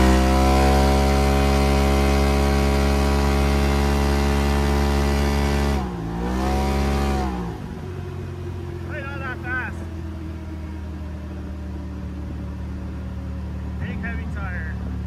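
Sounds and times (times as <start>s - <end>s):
engine at full throttle: 0.0s - 15.0s.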